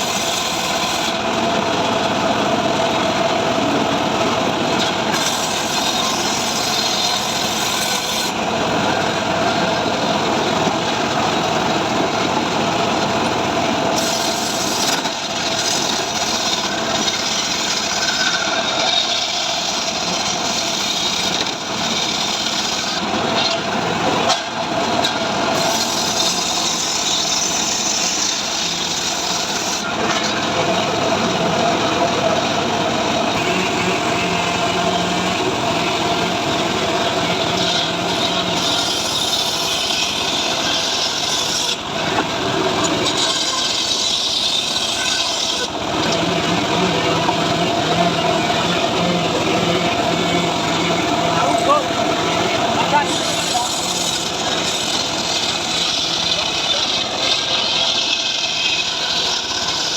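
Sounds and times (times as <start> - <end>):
power saw cutting wood: 0.0 - 59.9.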